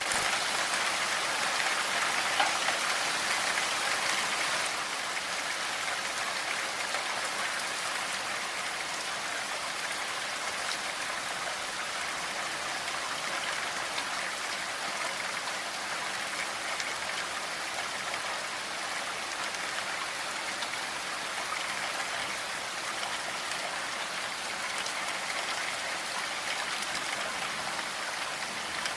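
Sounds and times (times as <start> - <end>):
steady rainfall: 0.0 - 28.9.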